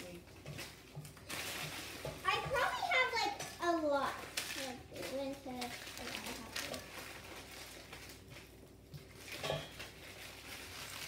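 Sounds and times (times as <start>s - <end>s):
candy wrappers crinkling: 0.0s - 11.0s.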